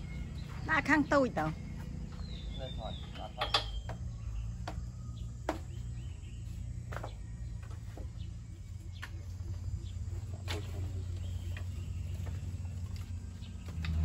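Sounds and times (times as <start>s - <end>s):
faint insect calls: 0.0s - 14.0s.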